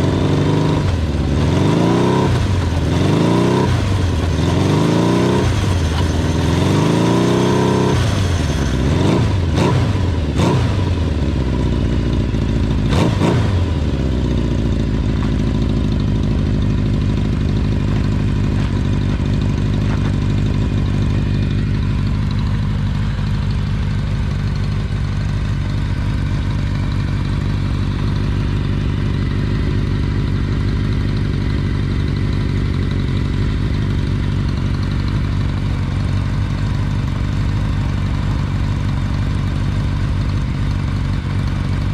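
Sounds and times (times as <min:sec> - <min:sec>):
motorcycle engine revving and idling: 0:00.0 - 0:41.9.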